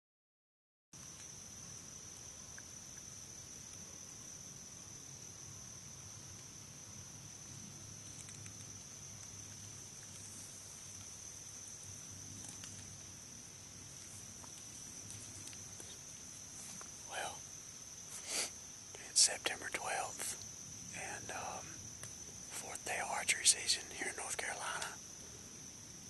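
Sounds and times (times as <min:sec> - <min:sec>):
crickets chirping: 0:01.0 - 0:26.0.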